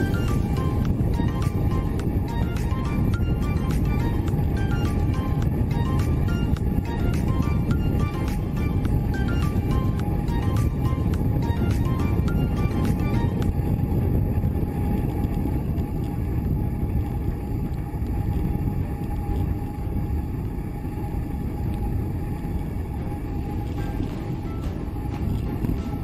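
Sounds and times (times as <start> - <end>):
engine and road rumble: 0.0 - 26.0
faint steady whine: 0.0 - 26.0.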